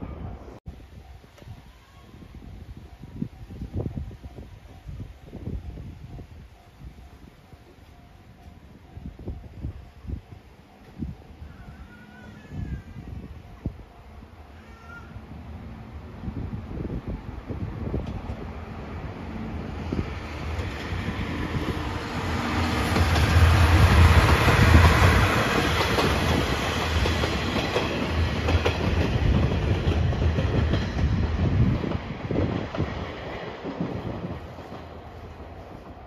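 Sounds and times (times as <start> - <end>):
railcar rumble and clickety-clack: 0.0 - 36.0.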